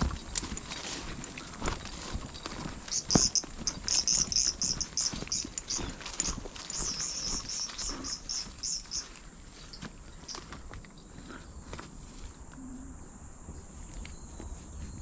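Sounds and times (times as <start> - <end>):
footsteps on ground: 0.0 - 12.5
insect chirping: 0.0 - 15.0.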